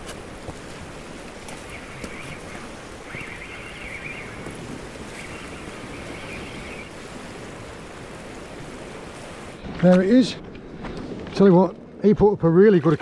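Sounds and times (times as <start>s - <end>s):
wind on microphone: 0.0s - 12.3s.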